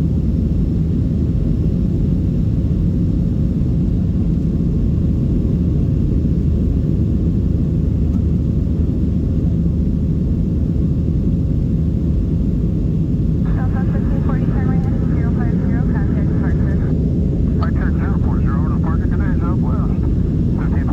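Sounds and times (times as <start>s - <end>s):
jet engine rumble in cabin: 0.0s - 20.9s.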